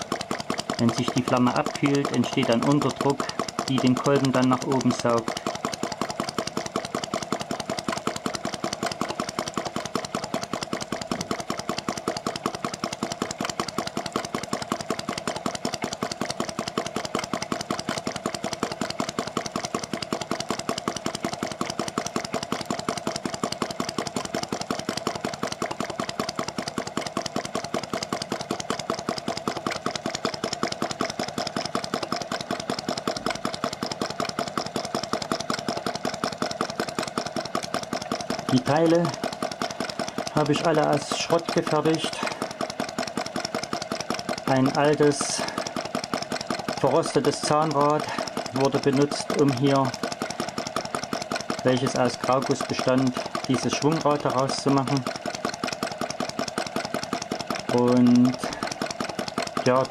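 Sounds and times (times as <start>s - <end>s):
model engine ticking: 0.0s - 59.9s
steady engine tone: 0.0s - 59.9s.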